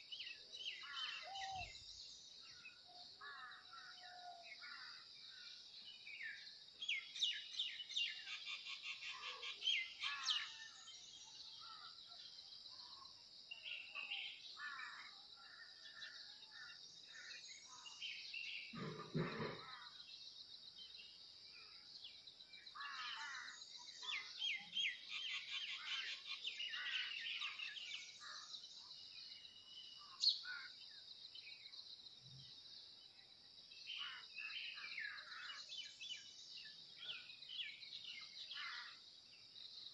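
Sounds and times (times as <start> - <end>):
birds chirping and trilling: 0.0 - 20.2, 20.8 - 31.8, 32.4 - 39.9.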